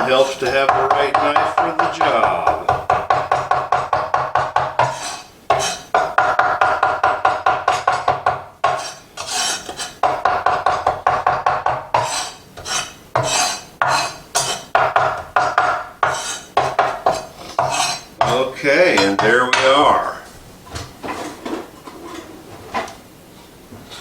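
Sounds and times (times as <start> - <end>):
knife chopping on cutting board: 0.0 - 19.7.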